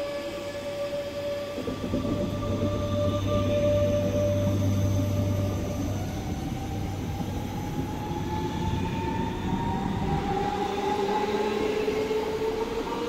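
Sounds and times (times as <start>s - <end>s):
train rumbling on track: 0.0s - 13.0s
train whine rising in pitch: 0.0s - 13.0s.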